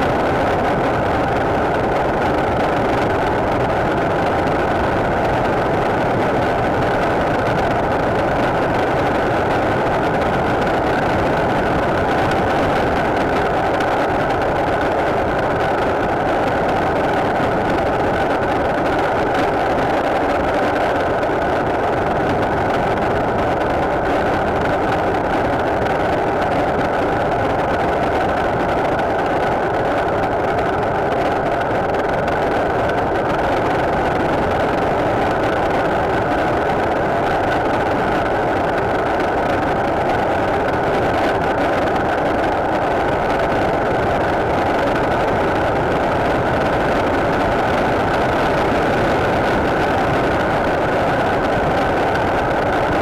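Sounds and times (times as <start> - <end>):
wind noise: 0.0 - 53.0.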